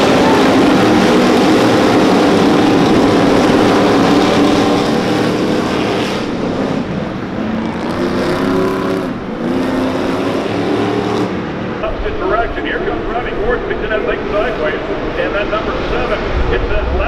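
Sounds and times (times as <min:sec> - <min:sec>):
race truck engines passing: 0:00.0 - 0:17.0.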